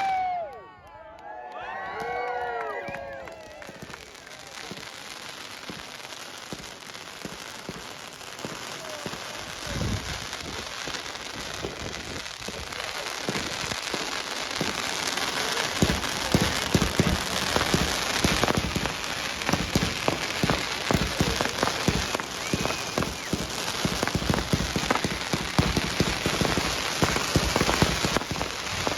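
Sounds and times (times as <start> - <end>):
fireworks crackling and popping: 1.9 - 28.9
fireworks bangs: 2.0 - 28.9.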